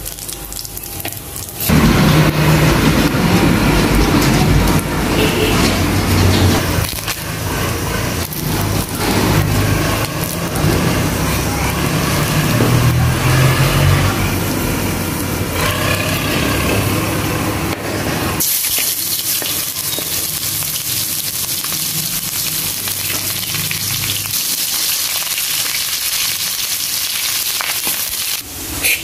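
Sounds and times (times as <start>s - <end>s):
onions sizzling in hot oil: 0.0s - 2.7s, 6.6s - 29.0s.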